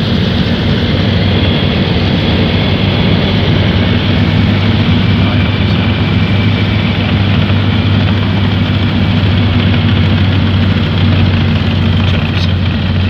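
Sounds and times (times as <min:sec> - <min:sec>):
engine and rotor drone: 0:00.0 - 0:13.0
wind noise: 0:00.0 - 0:13.0.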